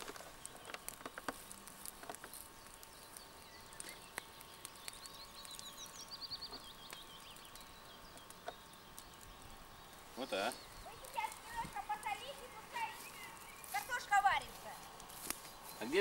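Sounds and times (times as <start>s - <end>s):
riverside ambience: 0.0s - 16.0s
songbird chirping: 0.0s - 16.0s.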